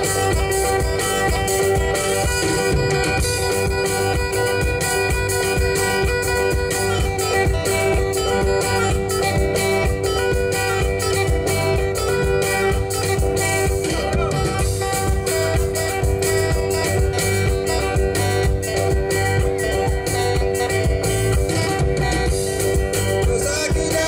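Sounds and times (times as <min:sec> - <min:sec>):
bass guitar: 0:00.0 - 0:24.0
drum kit beat: 0:00.0 - 0:24.0
electric guitars: 0:00.0 - 0:24.0.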